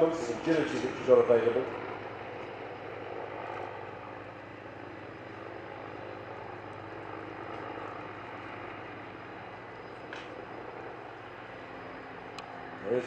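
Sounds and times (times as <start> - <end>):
helicopter rotors and engines: 0.0 - 13.0.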